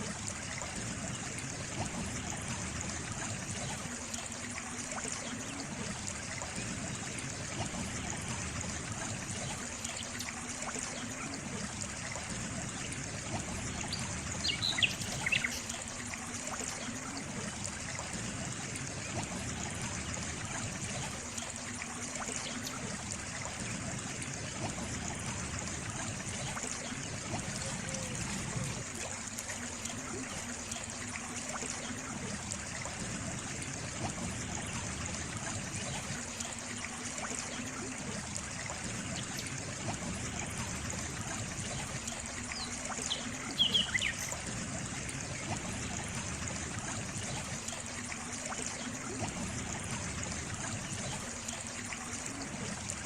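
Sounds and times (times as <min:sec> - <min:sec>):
small stream trickling: 0:00.0 - 0:53.0.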